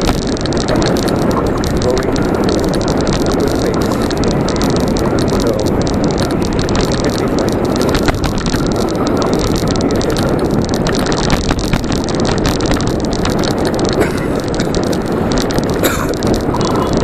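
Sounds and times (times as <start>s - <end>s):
road and tyre noise: 0.0s - 17.0s
wind buffeting microphone: 0.0s - 17.0s.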